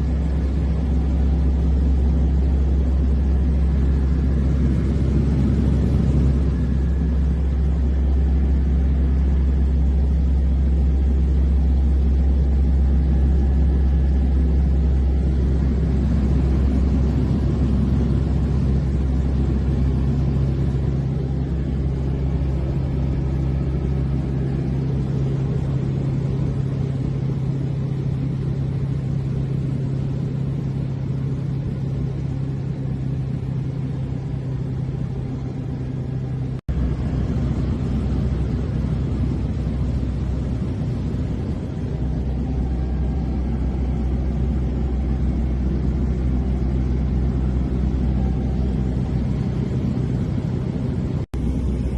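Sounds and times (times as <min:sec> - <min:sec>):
airplane piston engine droning: 0:00.0 - 0:51.9.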